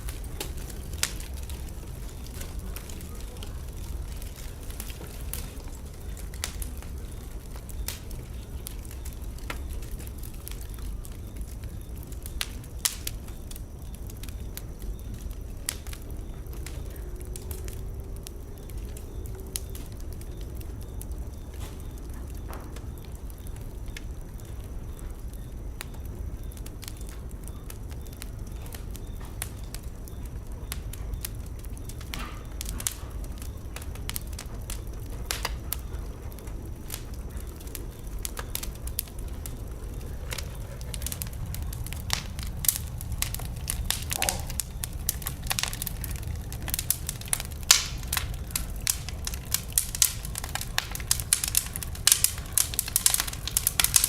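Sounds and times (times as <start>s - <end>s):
low rumble of flame: 0.0s - 54.0s
wood fire crackling and popping: 0.0s - 54.0s.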